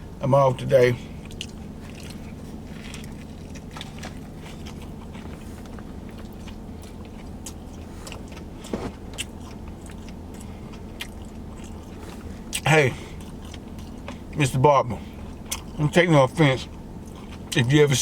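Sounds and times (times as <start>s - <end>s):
chewing and biting food: 1.1s - 17.8s.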